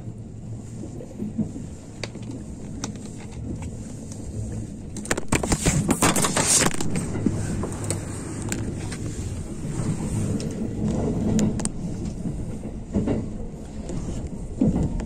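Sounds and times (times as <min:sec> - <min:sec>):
train running low rumble: 0:00.0 - 0:15.0
train wheel clicks: 0:01.0 - 0:05.3, 0:05.9 - 0:15.0.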